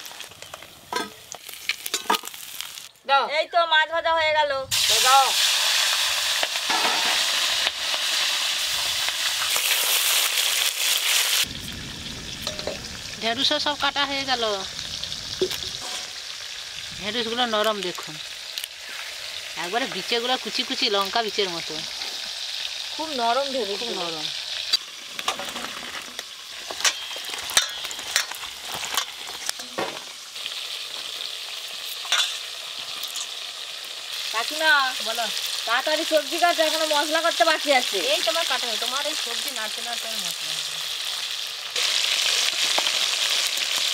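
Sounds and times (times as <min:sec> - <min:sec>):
fish sizzling in hot oil: 0:00.0 - 0:03.0, 0:04.7 - 0:43.9.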